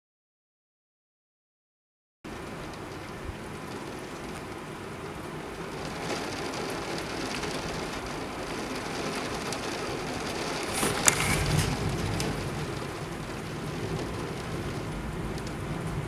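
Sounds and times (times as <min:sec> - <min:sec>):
heavy rain: 0:02.3 - 0:16.0.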